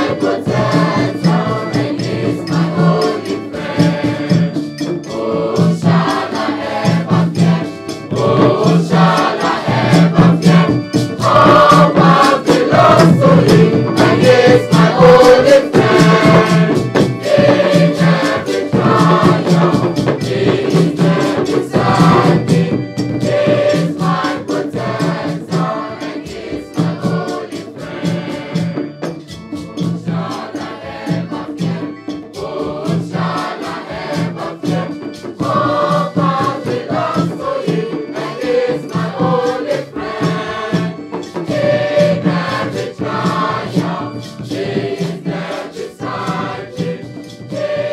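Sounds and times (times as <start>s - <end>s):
children's choir singing gospel: 0.0s - 47.9s
hand drums beat: 0.0s - 47.9s.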